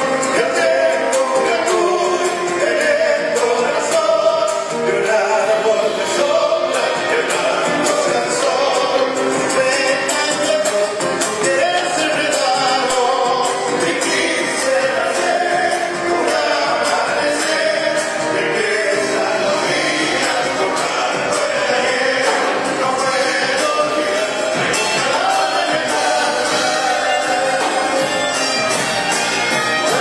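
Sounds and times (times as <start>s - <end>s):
live folk band playing: 0.0s - 30.0s
person singing: 0.0s - 30.0s.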